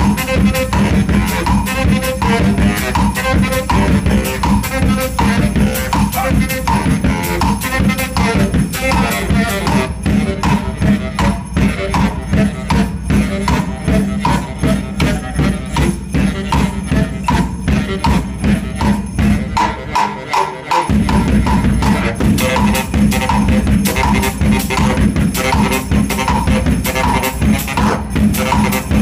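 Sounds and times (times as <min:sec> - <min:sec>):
drum beating fast rhythm: 0:00.0 - 0:29.0
percussive baritone saxophone: 0:00.0 - 0:29.0.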